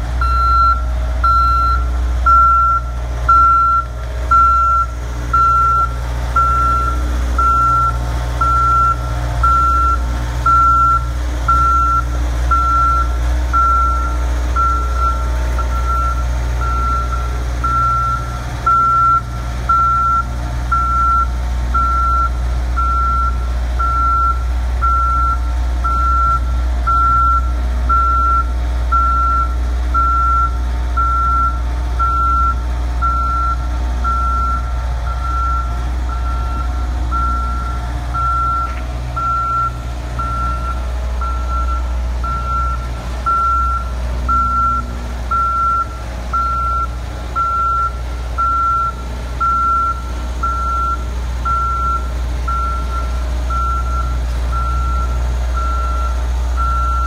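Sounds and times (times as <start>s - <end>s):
engine drone: 0.0s - 57.0s
motion alarm beeping: 0.2s - 57.0s.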